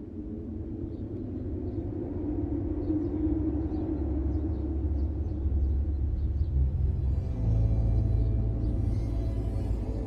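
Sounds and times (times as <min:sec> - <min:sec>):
dark ambient drone music: 0:00.0 - 0:10.0.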